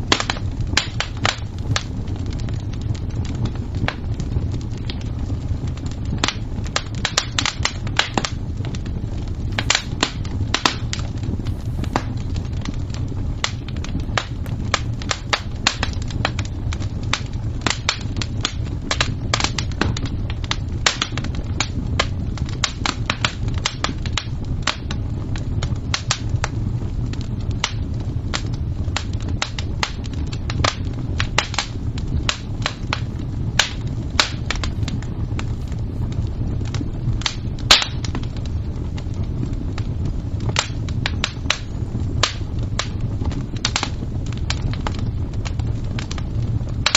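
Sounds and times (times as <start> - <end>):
fire crackling: 0.0 - 46.9.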